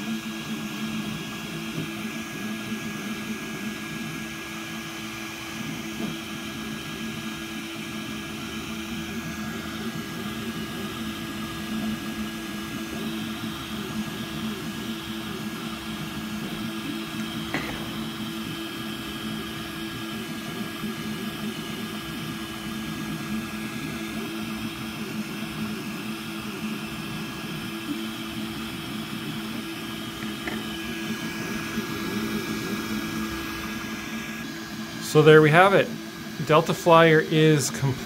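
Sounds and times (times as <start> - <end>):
printer fans and motors humming: 0.0 - 38.0.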